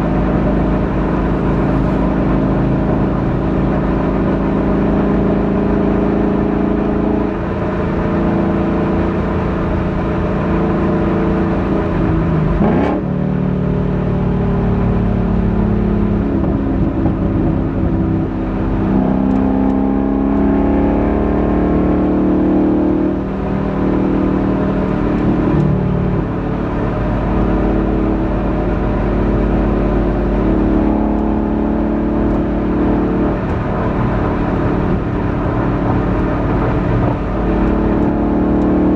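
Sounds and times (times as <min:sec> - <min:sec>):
car exhaust revving while driving: 0:00.0 - 0:38.9.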